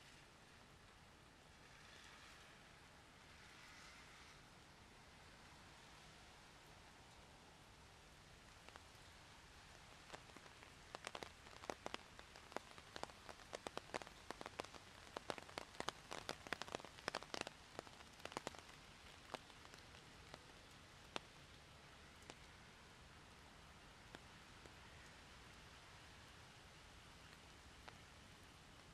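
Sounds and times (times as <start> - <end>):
faint hiss of rain: 0.0 - 28.9
raindrops dripping on a surface: 0.0 - 28.9.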